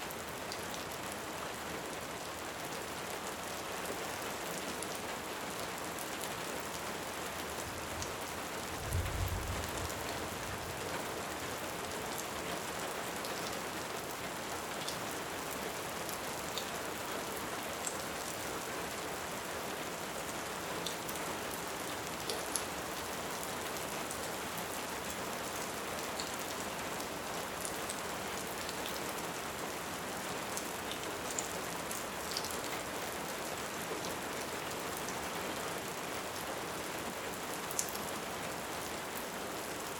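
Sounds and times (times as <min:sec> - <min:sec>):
heavy rain: 0:00.1 - 0:39.9.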